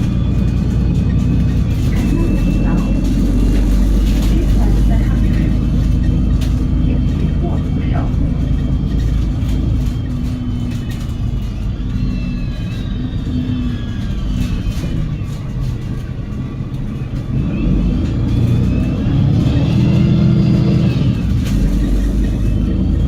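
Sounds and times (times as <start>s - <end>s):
bus engine rumble: 0.0s - 23.0s
high whine gliding in pitch: 0.0s - 23.0s.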